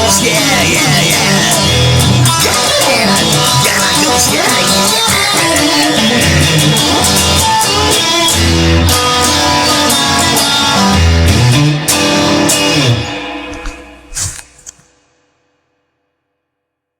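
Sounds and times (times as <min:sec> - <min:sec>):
drums: 0:00.0 - 0:14.8
guitars: 0:00.0 - 0:14.9.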